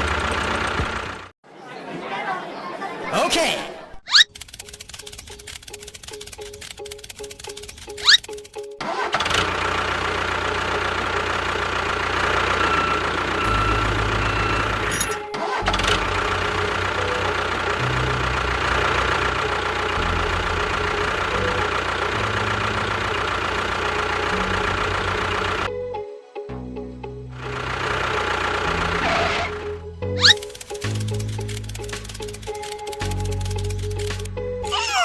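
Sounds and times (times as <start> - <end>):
small engine running: 0.0 - 1.3, 4.1 - 25.7, 27.3 - 35.0.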